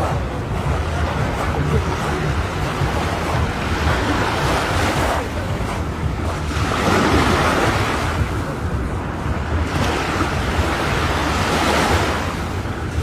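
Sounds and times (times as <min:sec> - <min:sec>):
sea waves washing in: 0:00.0 - 0:13.0
wind buffeting microphone: 0:00.0 - 0:13.0.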